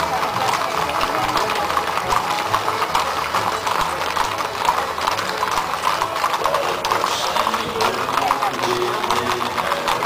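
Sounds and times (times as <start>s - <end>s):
horse hooves on asphalt: 0.0s - 10.0s.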